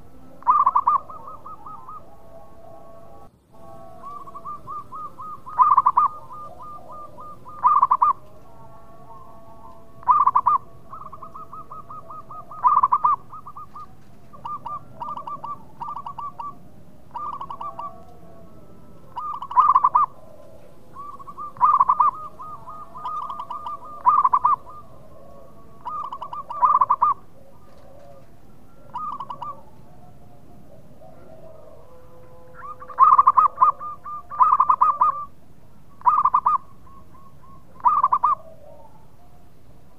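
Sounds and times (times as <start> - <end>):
dove trilling coos: 0.0 - 39.9.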